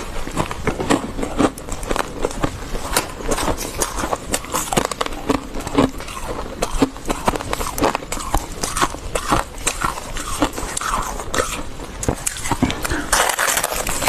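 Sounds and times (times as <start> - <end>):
frost crunching when chewed: 0.0 - 14.0.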